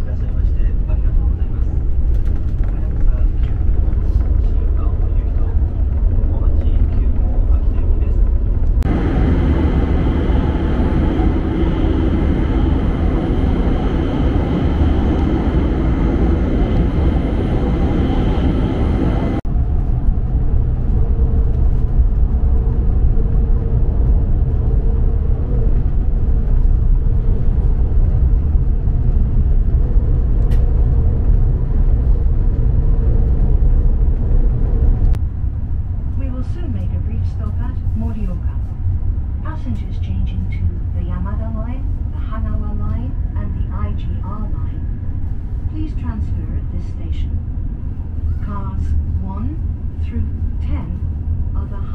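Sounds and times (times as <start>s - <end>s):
train cabin rumble: 0.0s - 51.9s.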